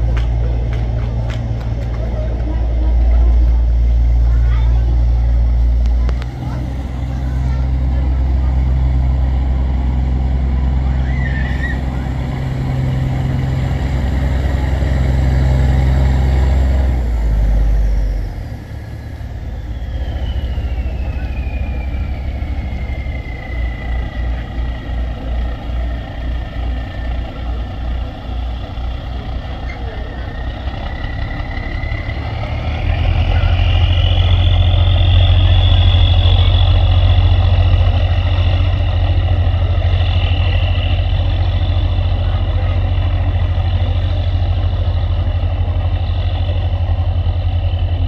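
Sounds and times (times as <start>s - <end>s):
engine whine: 0.0s - 48.0s
ferry engines throbbing drone: 0.0s - 48.0s.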